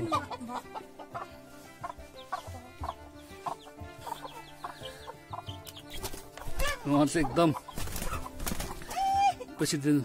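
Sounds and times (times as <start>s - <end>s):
hens clucking: 0.0s - 9.7s.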